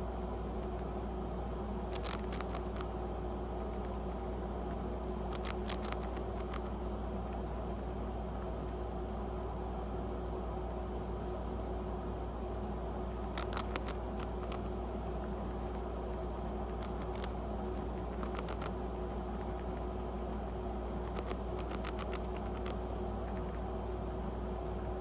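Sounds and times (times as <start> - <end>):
low background hum: 0.0 - 25.0
rat crunching a cracker: 0.5 - 1.0, 1.9 - 25.0.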